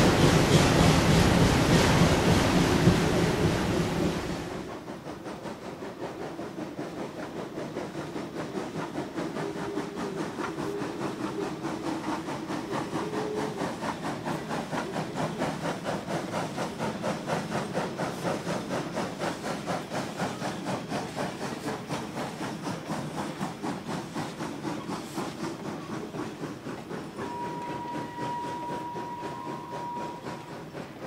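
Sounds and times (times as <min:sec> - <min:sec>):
steam hiss: 0:00.0 - 0:31.0
steam locomotive chuffing: 0:00.0 - 0:31.0.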